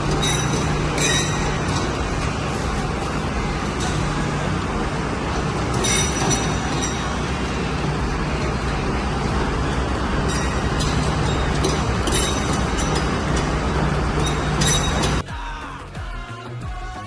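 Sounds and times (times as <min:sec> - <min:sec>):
high-pitched squeal: 0:00.0 - 0:15.2
diesel engine running: 0:00.0 - 0:16.1.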